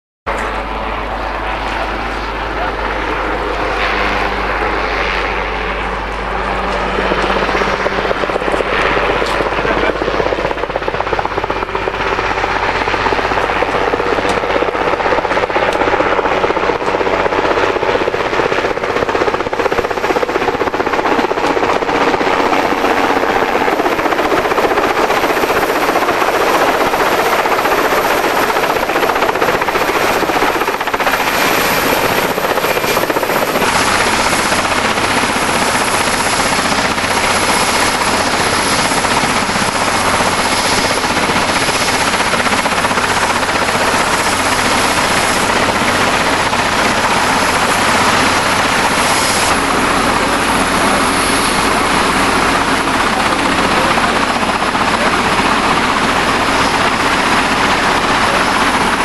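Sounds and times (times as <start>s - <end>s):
helicopter rotor and engines: 0.3s - 59.0s.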